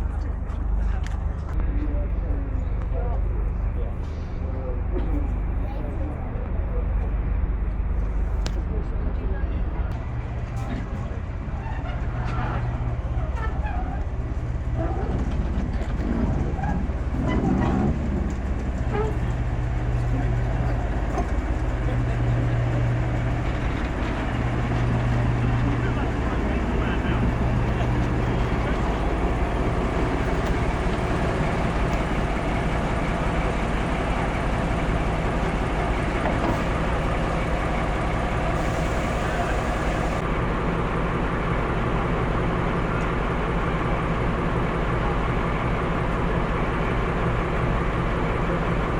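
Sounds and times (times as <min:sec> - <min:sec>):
locomotive engine throbbing: 0:00.0 - 0:48.9
vehicle rumble: 0:00.0 - 0:48.9.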